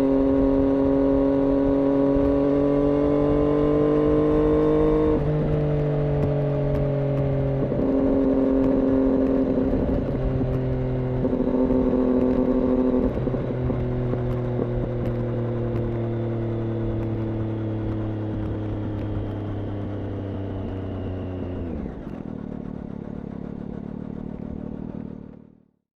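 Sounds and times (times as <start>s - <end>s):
motorcycle engine running: 0.0s - 25.8s.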